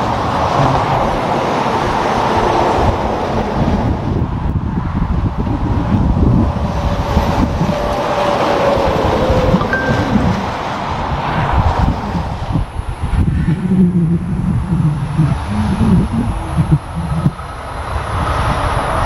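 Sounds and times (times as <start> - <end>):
trucks passing on highway: 0.0 - 19.0.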